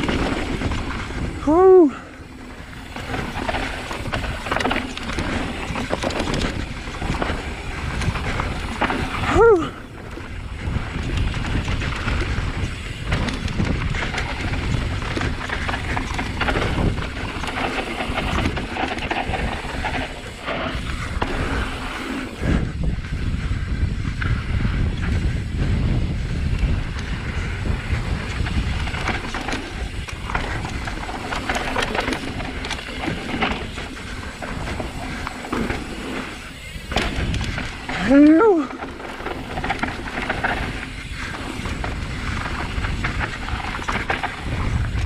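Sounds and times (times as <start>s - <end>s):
bike rattle over ground: 0.0s - 45.0s
wind buffeting microphone: 0.0s - 45.0s.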